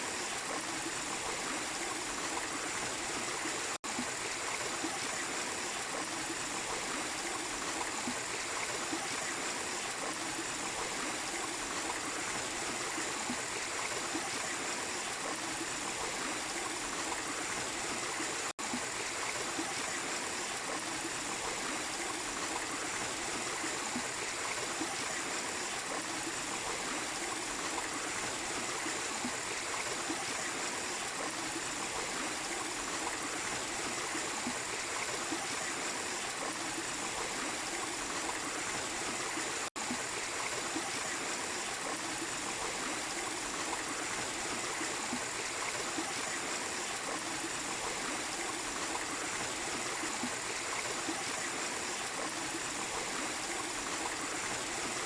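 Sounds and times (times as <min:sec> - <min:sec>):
small waterfall running: 0:00.0 - 0:55.0.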